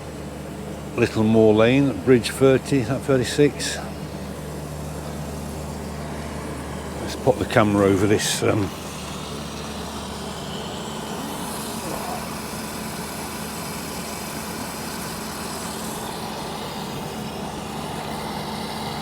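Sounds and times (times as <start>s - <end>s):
engine running: 0.0s - 19.0s
outdoor noise: 0.0s - 19.0s.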